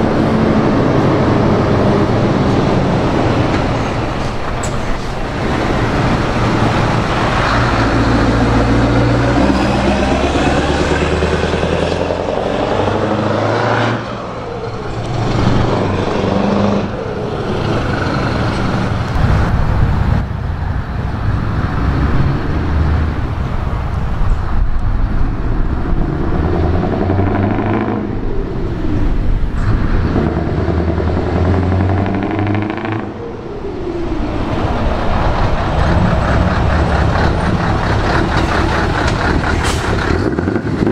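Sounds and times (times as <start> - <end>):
truck engine accelerating: 0.0 - 40.9.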